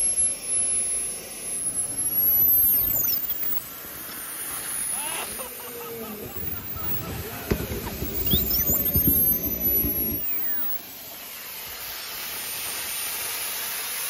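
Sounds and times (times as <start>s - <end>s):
jet turbine high-pitched whine: 0.0s - 14.0s.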